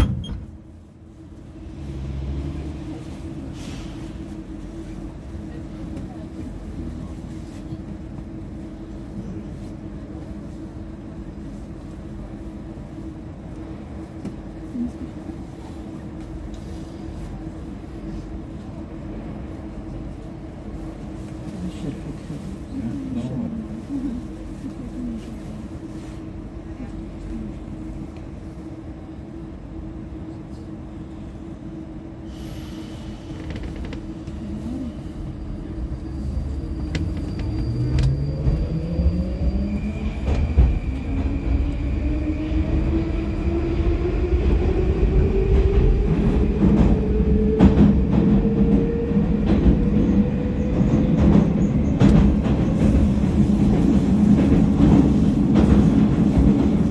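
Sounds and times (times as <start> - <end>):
metro car equipment hum: 0.0 - 56.9
train rumble: 0.0 - 56.9.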